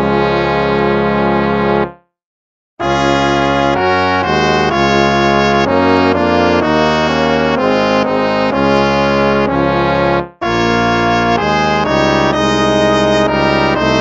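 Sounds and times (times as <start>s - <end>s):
brass hymn slow chords: 0.0s - 2.1s, 2.8s - 14.0s.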